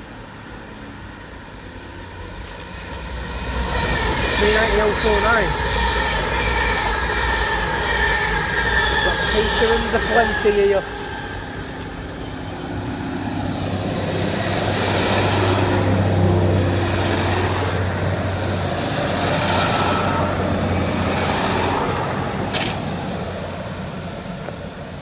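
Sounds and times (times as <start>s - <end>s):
electric train passing at speed: 0.0s - 25.0s.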